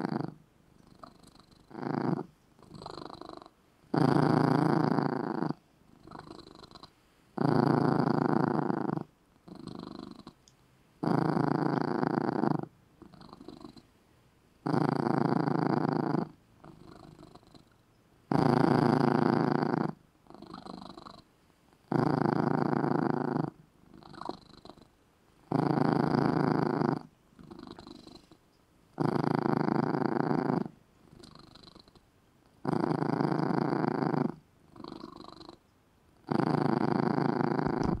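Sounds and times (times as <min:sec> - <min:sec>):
cat purring loudly: 0:00.0 - 0:10.4, 0:11.0 - 0:13.9, 0:14.6 - 0:32.0, 0:32.6 - 0:35.6, 0:36.2 - 0:38.0.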